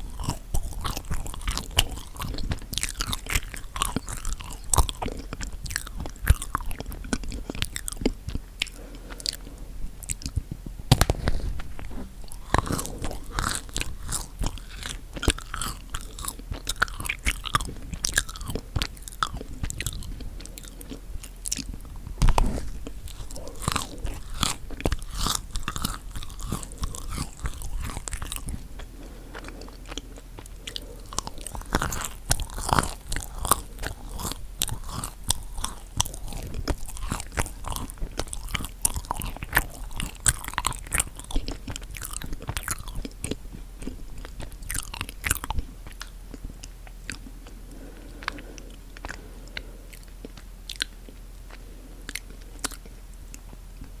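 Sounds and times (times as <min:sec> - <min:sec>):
chewing crunchy cookie: 0:00.0 - 0:54.0.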